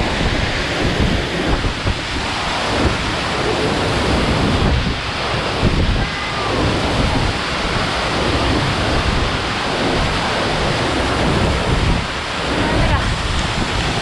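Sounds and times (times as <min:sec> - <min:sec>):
mountain stream rushing: 0:00.0 - 0:14.0
wind buffeting microphone: 0:00.0 - 0:14.0.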